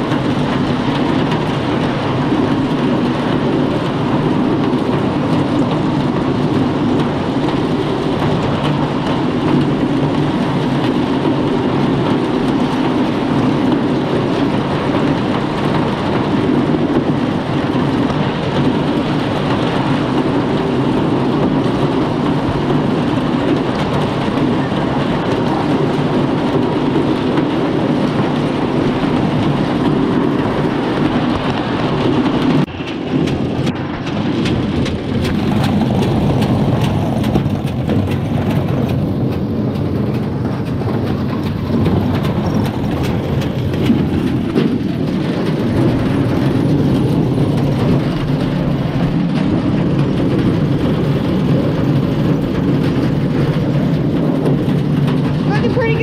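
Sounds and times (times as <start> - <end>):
corn elevator mechanical clatter: 0.0 - 56.0.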